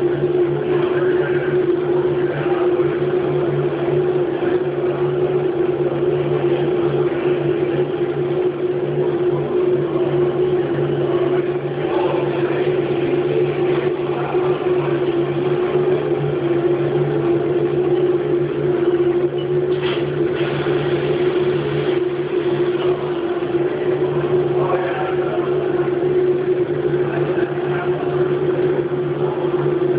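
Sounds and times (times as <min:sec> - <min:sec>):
machine hum with hiss: 0:00.0 - 0:29.9.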